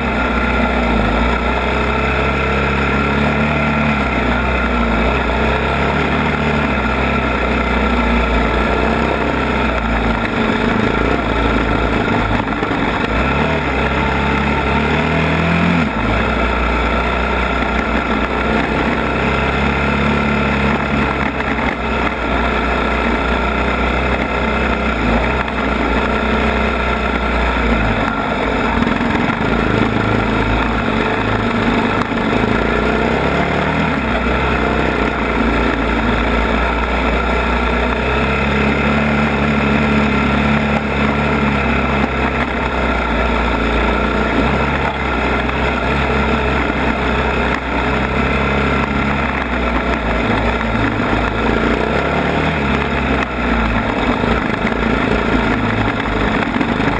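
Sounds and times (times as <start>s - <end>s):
atv engine revving: 0.0s - 56.9s.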